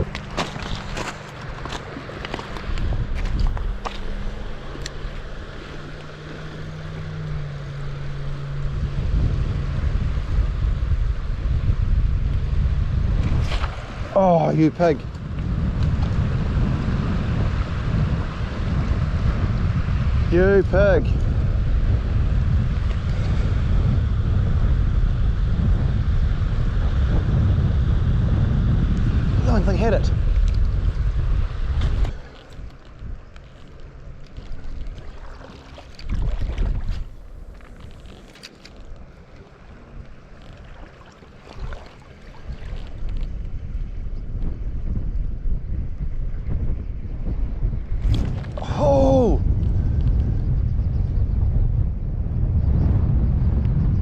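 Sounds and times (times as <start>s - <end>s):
boat engine humming: 0.0s - 26.9s, 29.4s - 49.6s
wind buffeting the microphone: 0.0s - 54.0s.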